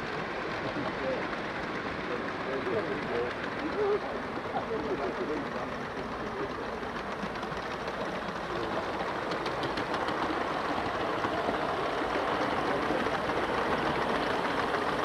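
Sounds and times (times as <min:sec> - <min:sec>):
model steam locomotive running: 0:00.0 - 0:15.0.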